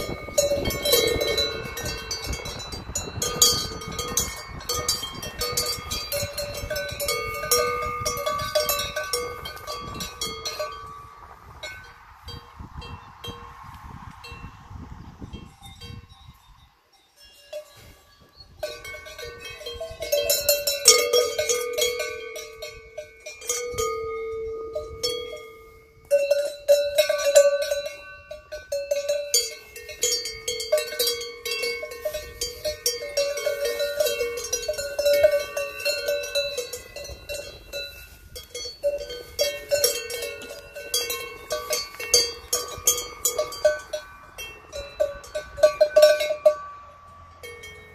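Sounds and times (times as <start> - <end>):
cowbells clanking: 0.0 - 13.5, 15.3 - 47.9.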